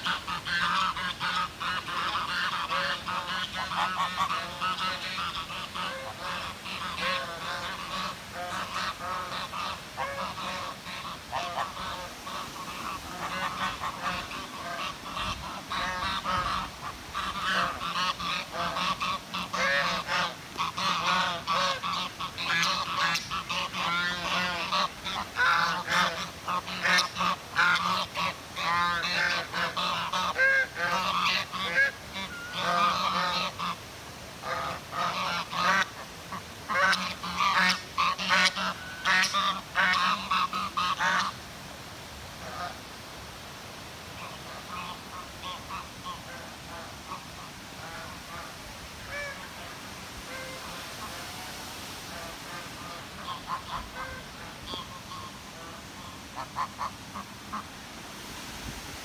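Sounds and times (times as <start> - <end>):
geese honking: 0.0 - 33.8, 34.4 - 41.4, 44.2 - 51.5, 52.1 - 57.7.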